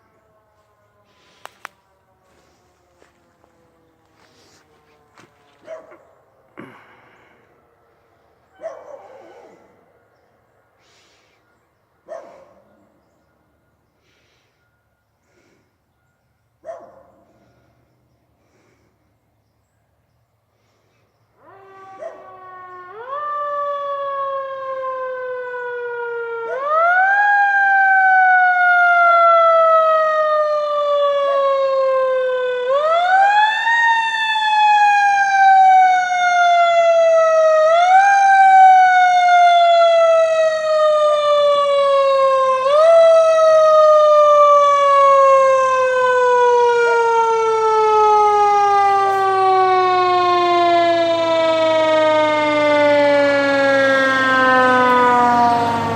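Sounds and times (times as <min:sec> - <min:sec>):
fire truck siren wailing: 0:00.0 - 0:18.9, 0:21.3 - 0:55.9.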